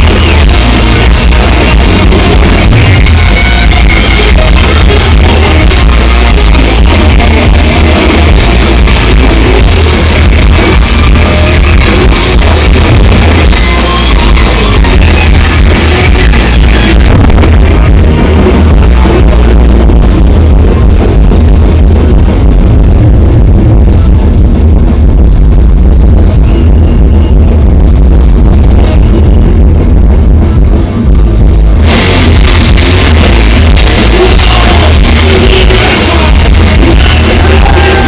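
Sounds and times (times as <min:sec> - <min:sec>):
metal band playing live: 0:00.0 - 0:38.0.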